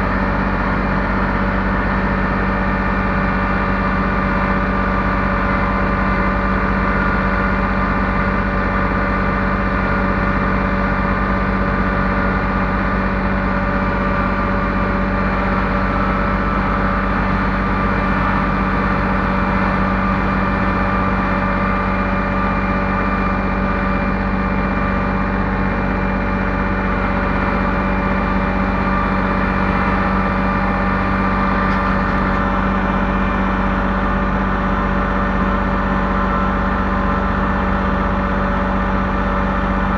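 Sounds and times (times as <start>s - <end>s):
heavy equipment engine droning: 0.0s - 39.9s.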